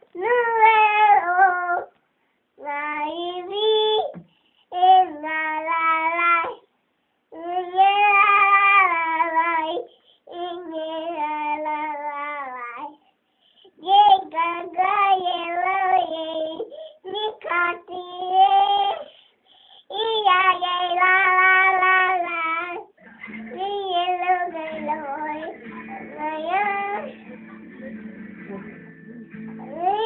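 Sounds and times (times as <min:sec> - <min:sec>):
child singing: 0:00.0 - 0:02.0, 0:02.6 - 0:06.7, 0:07.3 - 0:13.0, 0:13.7 - 0:19.1, 0:19.8 - 0:27.2, 0:29.6 - 0:30.0.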